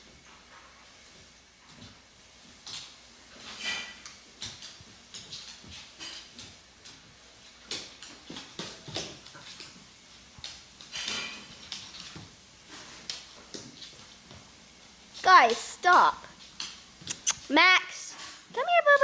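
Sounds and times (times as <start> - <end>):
dogs scuffling and clicking: 0.1 - 17.5.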